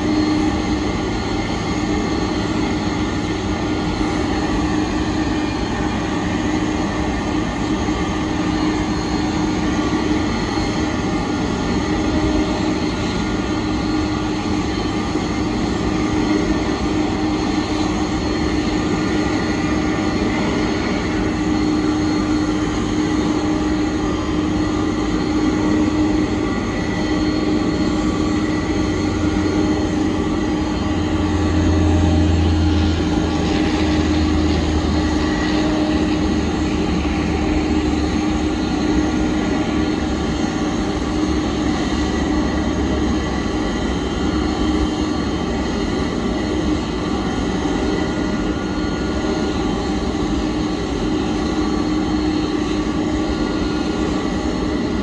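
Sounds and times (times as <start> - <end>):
jet engines idling rumble and whine: 0.0 - 55.0.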